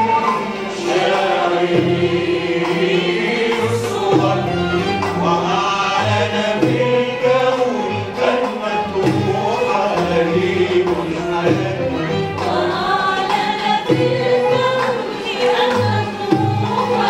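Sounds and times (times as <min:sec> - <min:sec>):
choir singing: 0:00.0 - 0:17.0
violin accompaniment: 0:00.0 - 0:17.0.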